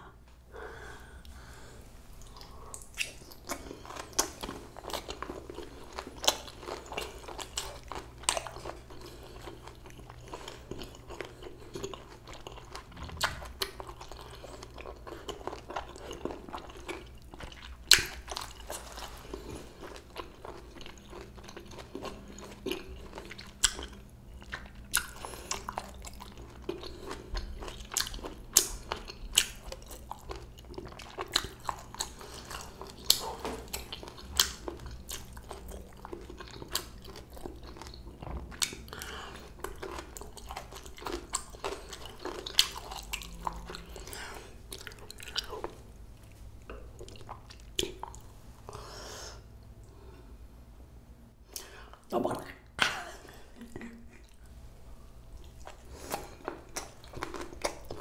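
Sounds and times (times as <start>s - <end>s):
person chewing with crunches: 1.2s - 50.3s, 53.3s - 58.0s.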